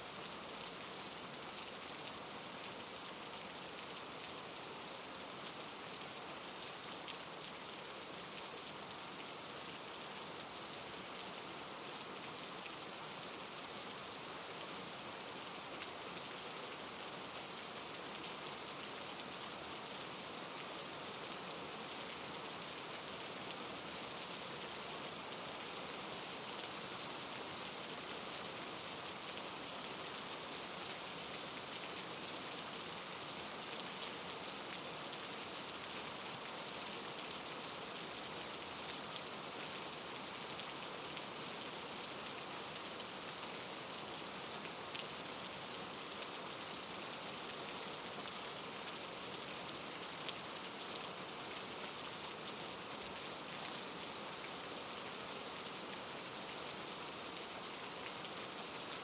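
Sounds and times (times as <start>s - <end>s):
soft rain falling: 0.0s - 59.0s.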